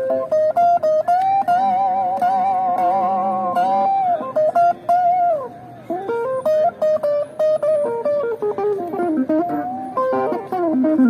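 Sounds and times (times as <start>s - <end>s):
guitar melody: 0.0s - 11.0s.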